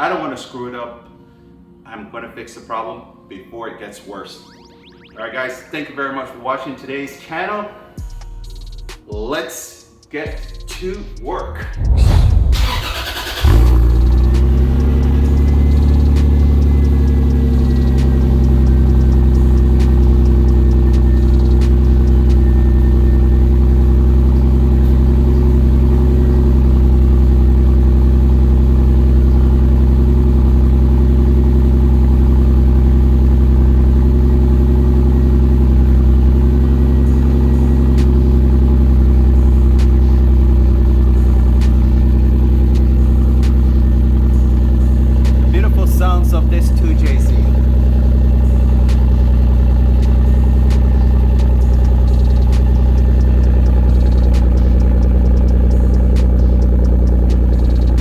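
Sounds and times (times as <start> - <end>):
car engine idling roughly: 10.4 - 58.0.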